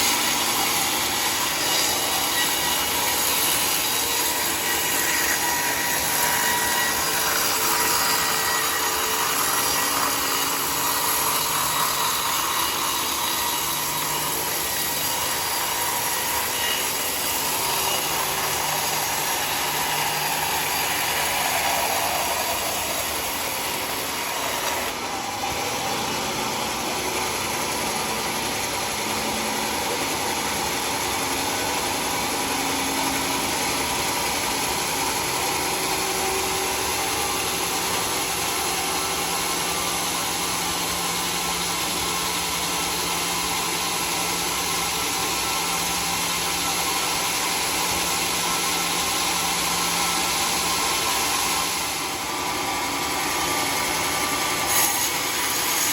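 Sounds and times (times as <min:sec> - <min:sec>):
circular saw cutting log: 0:00.0 - 0:55.9.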